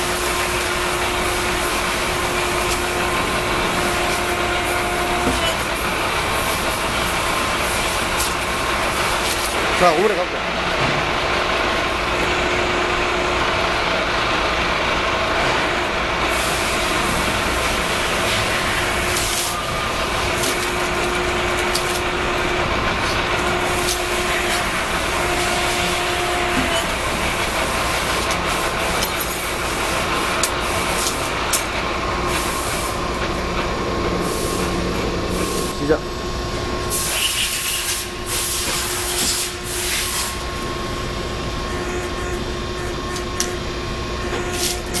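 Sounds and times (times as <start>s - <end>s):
hydraulic pump hum and whine: 0.0s - 45.0s.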